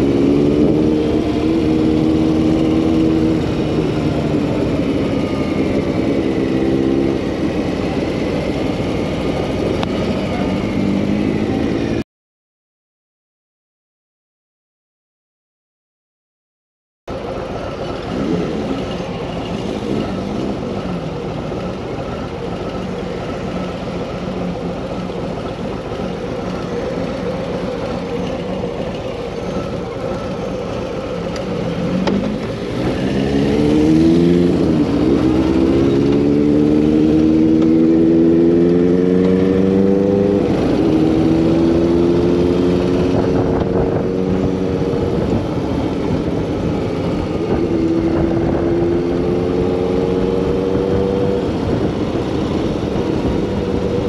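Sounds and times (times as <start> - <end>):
motorcycle engine idling and revving: 0.0 - 12.0, 17.1 - 54.0.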